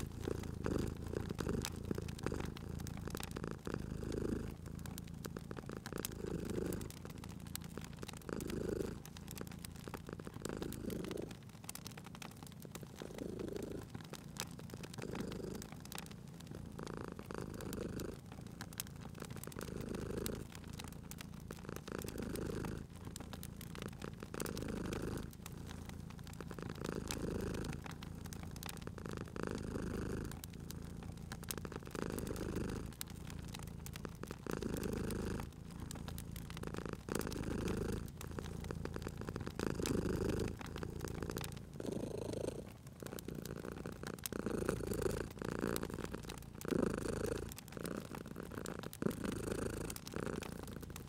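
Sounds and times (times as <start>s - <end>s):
cat purring: 0.0s - 51.0s
wood fire crackling: 0.0s - 51.0s.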